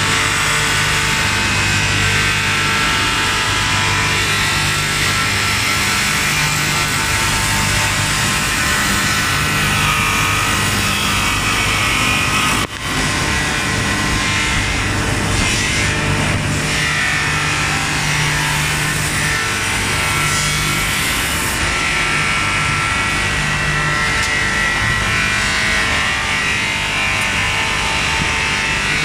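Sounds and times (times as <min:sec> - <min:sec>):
wood-turning lathe running: 0:00.0 - 0:23.4.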